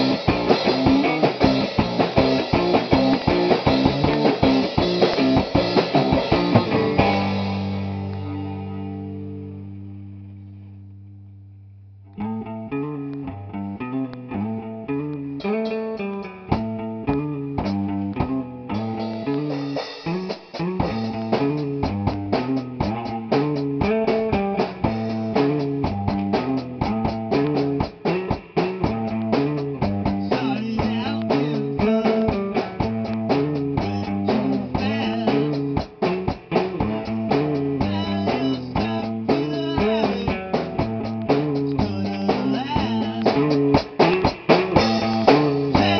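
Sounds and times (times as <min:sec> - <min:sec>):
rock band playing: 0:00.0 - 0:09.8, 0:12.2 - 0:45.9
drums: 0:00.0 - 0:11.0, 0:14.4 - 0:45.9
electric guitar riff: 0:00.0 - 0:45.9.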